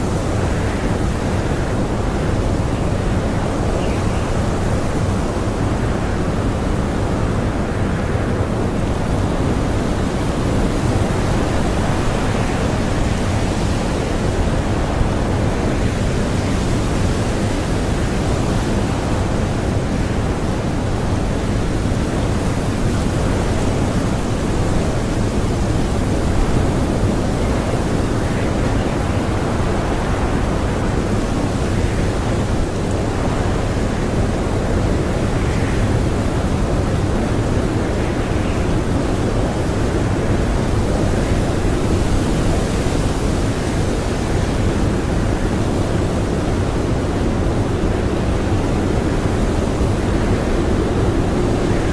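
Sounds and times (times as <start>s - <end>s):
blizzard wind blowing: 0.0s - 51.9s.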